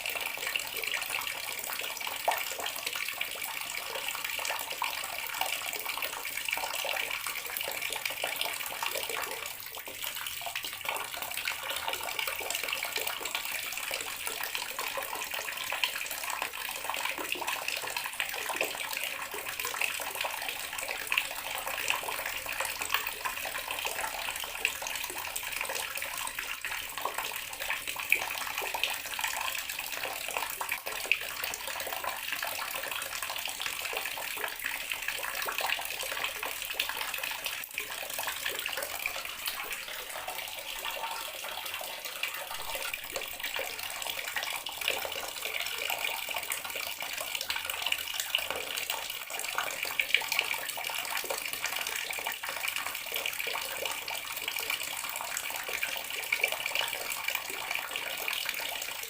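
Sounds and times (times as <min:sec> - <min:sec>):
water running from sink tap: 0:03.7 - 0:52.1.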